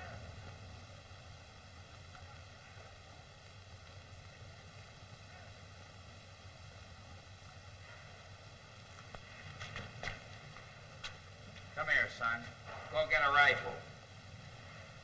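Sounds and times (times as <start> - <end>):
old film soundtrack hiss and hum: 0.0 - 15.0.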